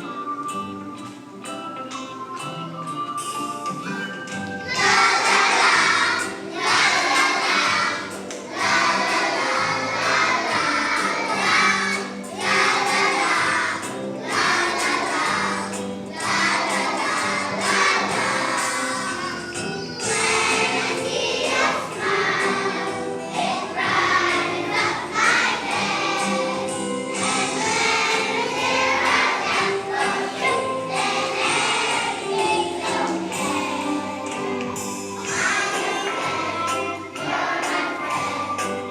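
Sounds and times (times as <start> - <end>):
children's choir singing: 0.0 - 1.3, 3.6 - 38.9
instrumental accompaniment: 0.0 - 38.9.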